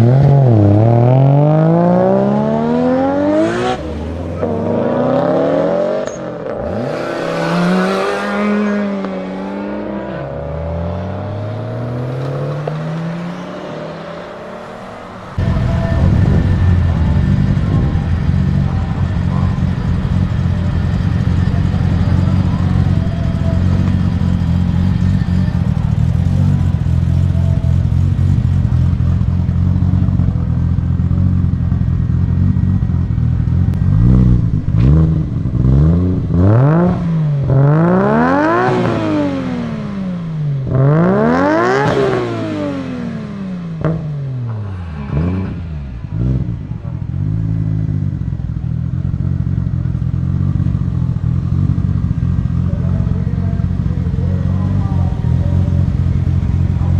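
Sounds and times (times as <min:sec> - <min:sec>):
car engine idling and revving: 0:00.0 - 0:56.9
exhaust cracks: 0:11.0 - 0:56.9.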